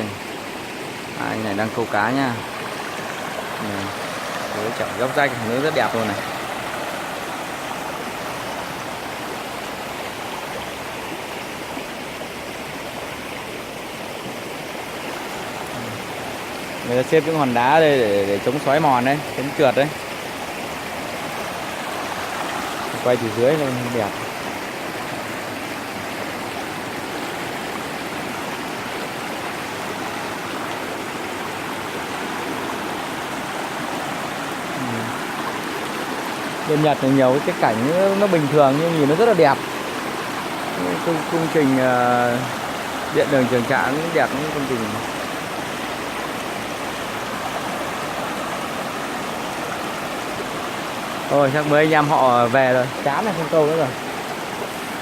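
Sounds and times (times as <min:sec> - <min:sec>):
stream water rushing over rocks: 0:00.0 - 0:55.0.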